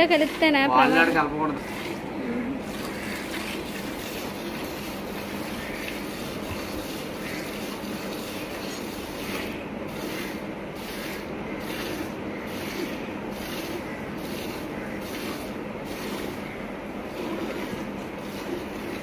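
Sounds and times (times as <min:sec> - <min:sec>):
milk squirting into pail: 0:01.6 - 0:19.0.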